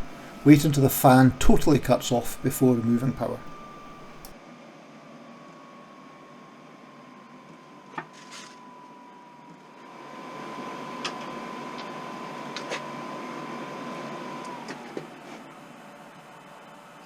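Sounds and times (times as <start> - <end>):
heater fan whining: 0.0 - 17.0.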